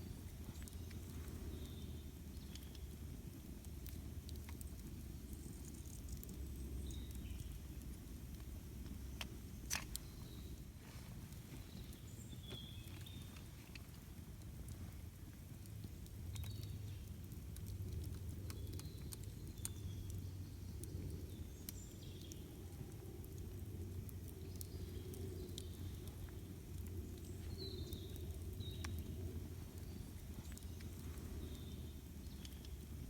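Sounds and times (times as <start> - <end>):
campfire crackling and popping: 0.0 - 33.0
low steady rumble: 0.0 - 33.0.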